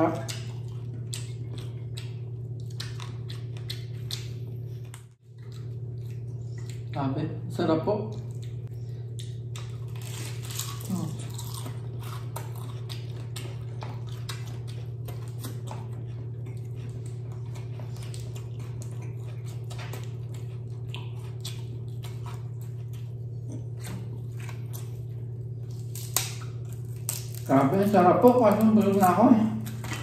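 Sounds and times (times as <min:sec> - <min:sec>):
chewing and crunching crispy food: 0:00.0 - 0:07.2, 0:07.9 - 0:30.0
steady low hum: 0:00.0 - 0:30.0.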